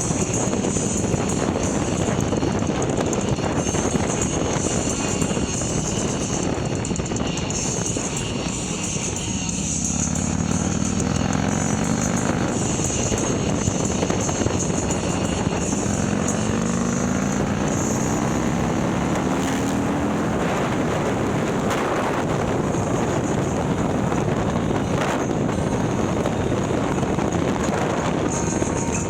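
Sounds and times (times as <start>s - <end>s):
motorcycle engine under way: 0.0s - 29.0s
wind rush over microphone: 0.0s - 29.0s.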